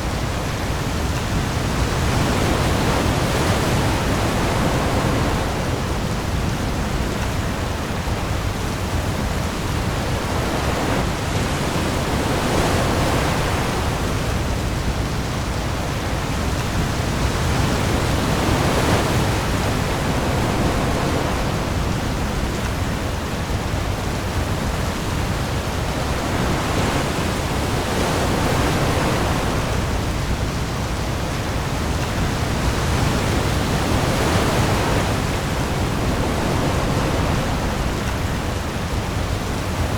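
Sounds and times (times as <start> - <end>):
heavy rain on the sea: 0.0 - 39.9
waves rumbling: 0.0 - 39.9.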